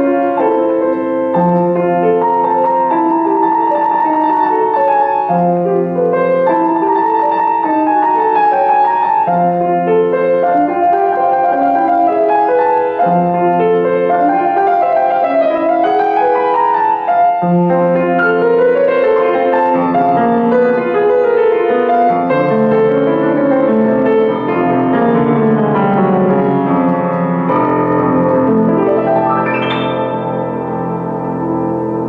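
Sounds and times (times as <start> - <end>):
solo grand piano piece: 0.0 - 32.0.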